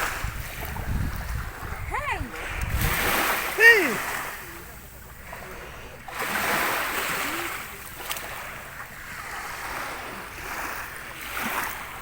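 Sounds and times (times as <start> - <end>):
sea waves washing in: 0.0 - 12.0.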